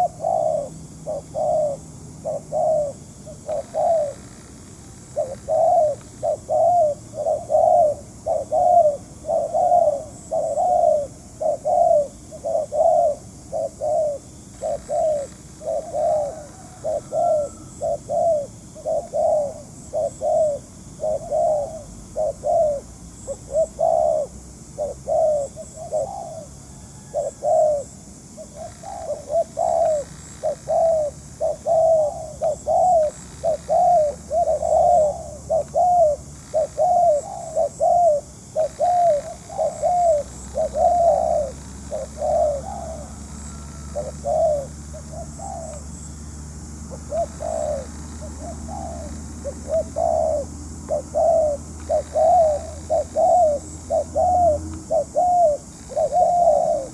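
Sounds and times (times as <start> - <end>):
dove cooing: 0.0 - 56.9.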